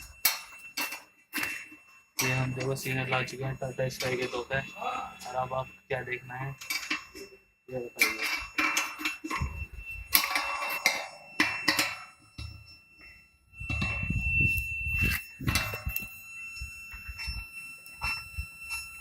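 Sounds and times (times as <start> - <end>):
high-pitched electronic tone: 0.0 - 19.0.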